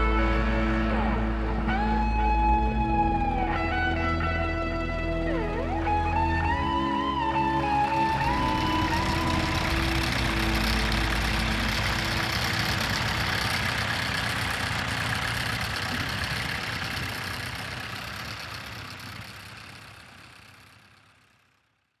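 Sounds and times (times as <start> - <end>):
tractor engines under load: 0.0 - 22.0.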